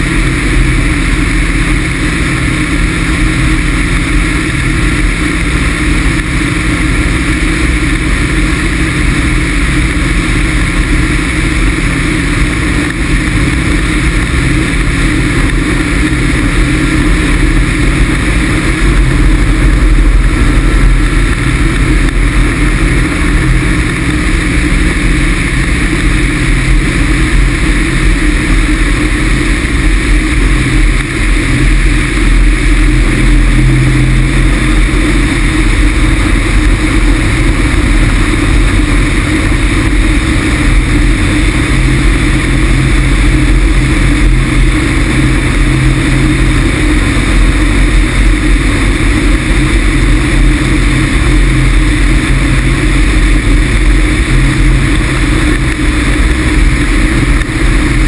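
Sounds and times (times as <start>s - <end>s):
wind rush buffeting camera: 0.0s - 58.0s.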